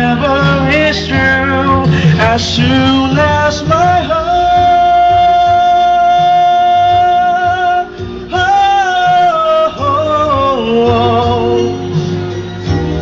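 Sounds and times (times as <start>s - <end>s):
man singing held high note: 0.0s - 12.0s
ballad backing track: 0.0s - 13.0s.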